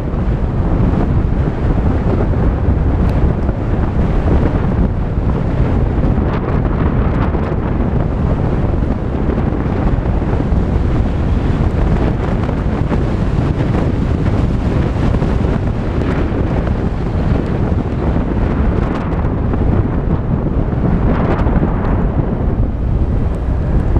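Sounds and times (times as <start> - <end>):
tyres rumbling on dirt road: 0.0 - 23.9
wind buffeting microphone: 0.0 - 23.9.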